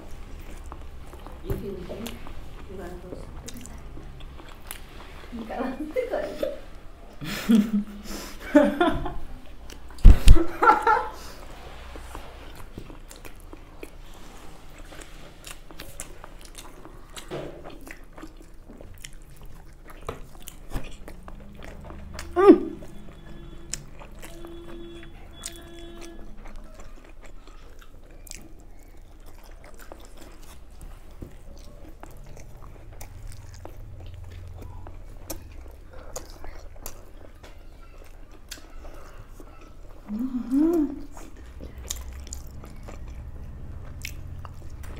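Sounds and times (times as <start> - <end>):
biting and chewing: 0.0 - 5.2, 11.7 - 40.2, 41.0 - 44.9.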